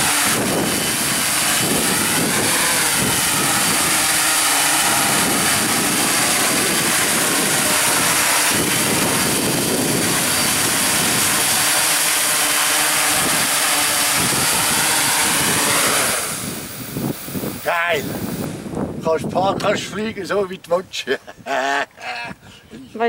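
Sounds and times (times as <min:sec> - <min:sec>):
drone propellers whining and buzzing: 0:00.0 - 0:19.0.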